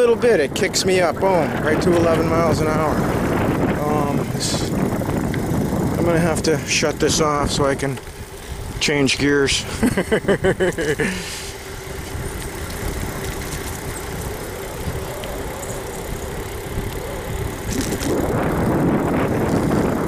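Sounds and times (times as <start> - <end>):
bike tyre rumble on pavement: 0.0 - 20.0
wind buffeting microphone: 0.0 - 20.0.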